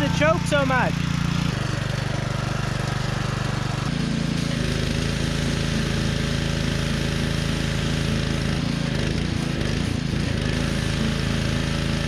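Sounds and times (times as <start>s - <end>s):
pressure washer engine running: 0.0s - 12.0s.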